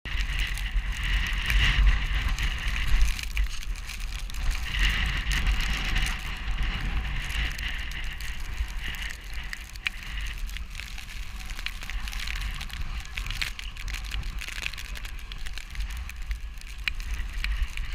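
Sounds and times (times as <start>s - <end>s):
wind buffeting microphone: 0.0s - 17.9s
scattered clicks: 0.1s - 17.9s.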